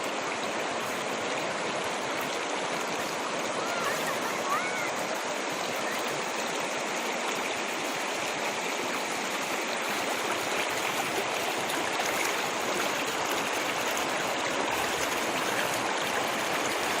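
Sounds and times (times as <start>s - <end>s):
stream of running water: 0.0s - 17.0s.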